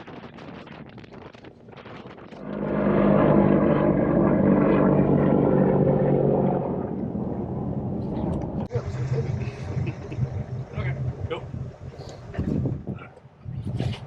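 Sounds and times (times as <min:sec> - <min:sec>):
boat engine running: 0:00.2 - 0:13.3.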